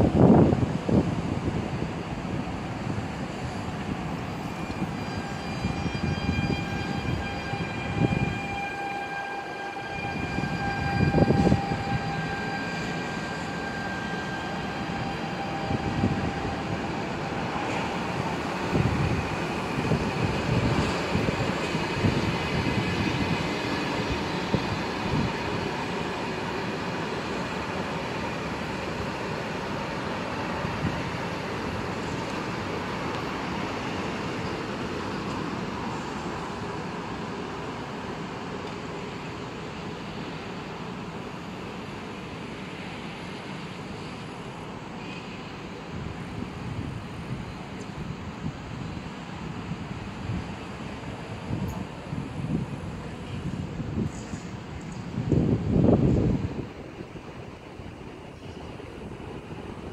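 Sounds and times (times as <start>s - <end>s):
rush of passing train: 0.0s - 59.9s
steady train whine: 0.0s - 59.9s
train wheels rumbling on rails: 0.0s - 59.9s.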